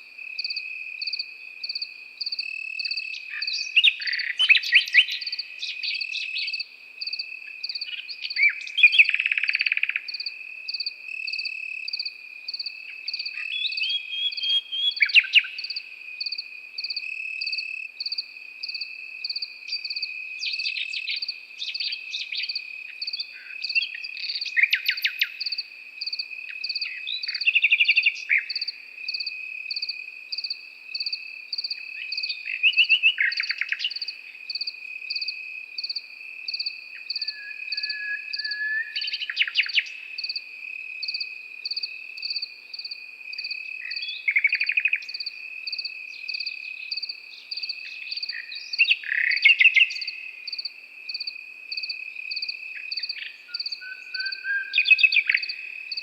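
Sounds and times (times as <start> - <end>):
crickets chirping: 0.0 - 56.0
nightingale singing trills: 0.0 - 56.0.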